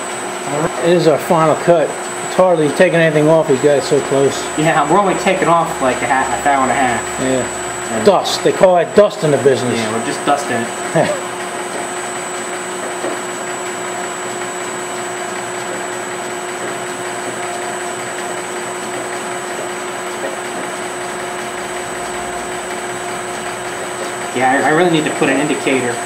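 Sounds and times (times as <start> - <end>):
metal lathe whining: 0.0 - 26.0.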